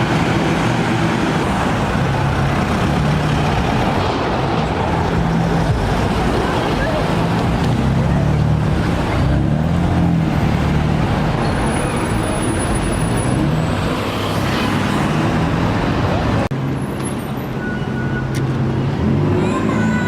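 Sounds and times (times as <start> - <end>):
street traffic engines: 0.0 - 20.0.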